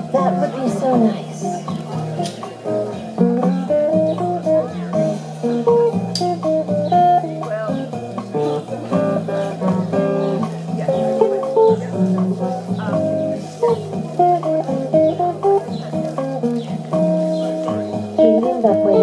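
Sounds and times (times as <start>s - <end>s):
bossa nova guitar: 0.0s - 19.0s.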